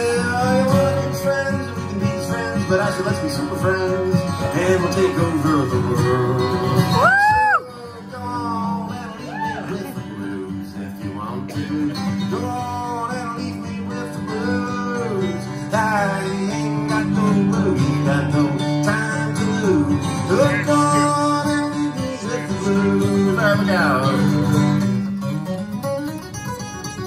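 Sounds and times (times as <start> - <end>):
person singing: 0.0 - 24.4
acoustic guitar playing: 0.0 - 27.0.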